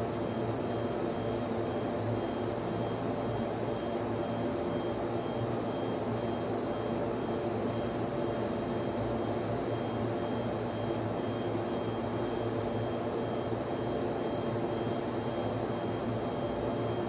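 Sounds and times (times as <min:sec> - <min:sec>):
server room hum: 0:00.0 - 0:17.0.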